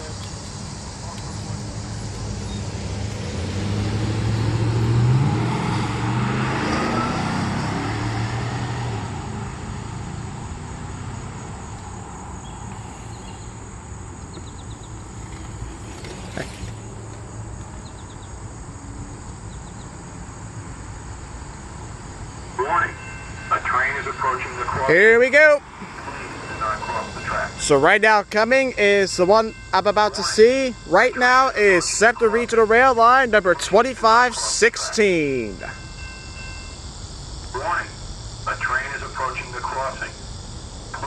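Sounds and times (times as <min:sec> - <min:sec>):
vehicle engine passing by: 0:00.0 - 0:22.6, 0:24.0 - 0:35.9
outdoor background noise: 0:00.0 - 0:41.0.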